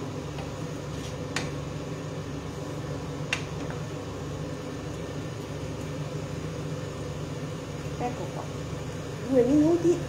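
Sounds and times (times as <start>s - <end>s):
range hood fan humming: 0.0s - 10.0s.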